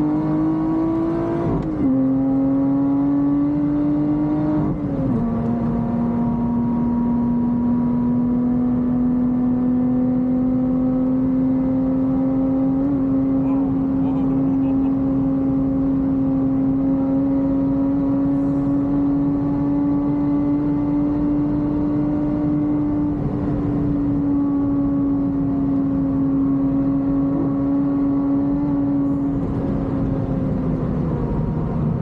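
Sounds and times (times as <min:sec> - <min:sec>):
car engine at high revs: 0:00.0 - 0:32.0.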